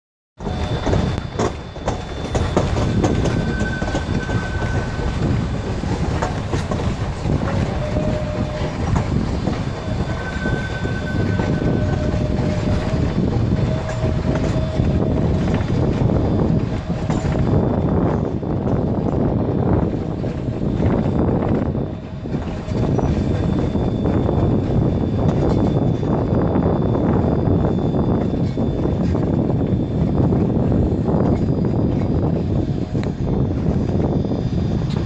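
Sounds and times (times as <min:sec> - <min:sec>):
distant steam train rumbling: 0:00.4 - 0:35.0
wind buffeting microphone: 0:00.4 - 0:35.0.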